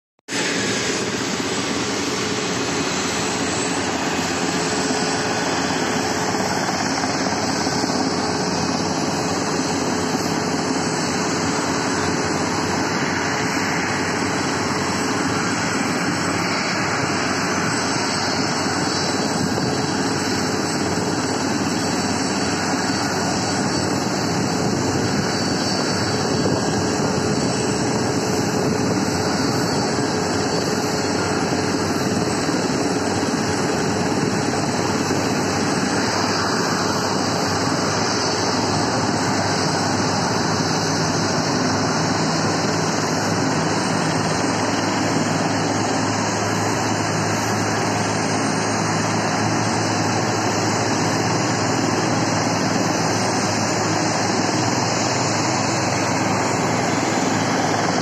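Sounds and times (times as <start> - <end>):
jet engines roaring: 0.3 - 58.0.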